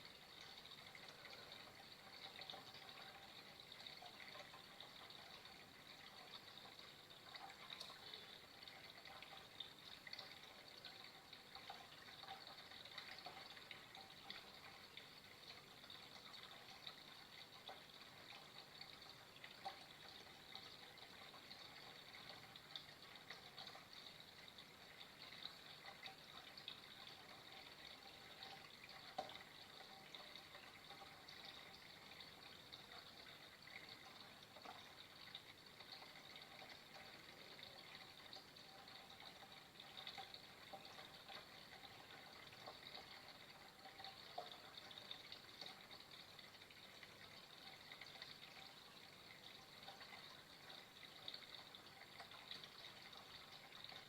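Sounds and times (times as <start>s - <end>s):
water drips: 0.0s - 54.0s
water trickling: 0.0s - 54.0s.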